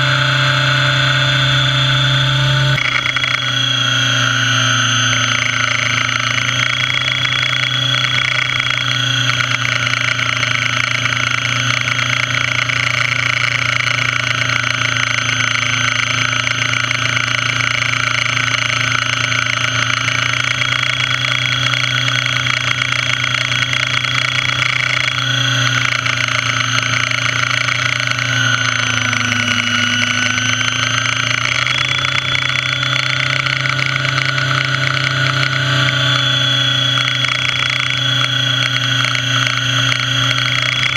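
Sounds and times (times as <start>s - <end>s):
model helicopter rotors droning: 0.0s - 40.9s.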